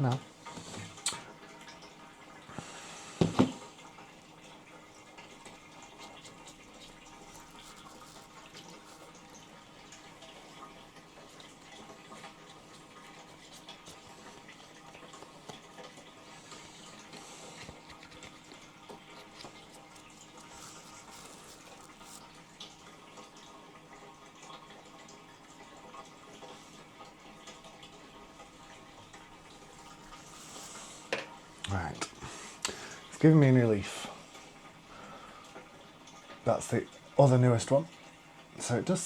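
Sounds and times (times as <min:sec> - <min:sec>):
water trickling into plant pot: 0:00.0 - 0:39.0.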